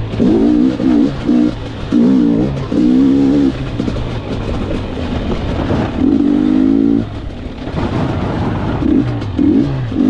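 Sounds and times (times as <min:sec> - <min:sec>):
dirt bike engine revving: 0:00.0 - 0:04.4, 0:05.4 - 0:10.0.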